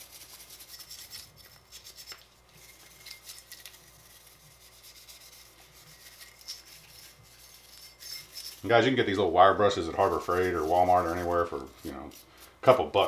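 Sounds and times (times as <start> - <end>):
wire brush scrubbing metal: 0.0 - 13.0.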